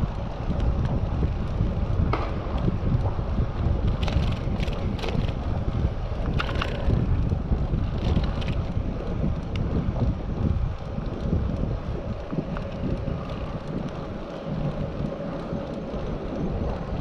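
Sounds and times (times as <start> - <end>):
bicycle clicks and rattles: 0.0 - 17.0
wind buffeting microphone: 0.0 - 17.0.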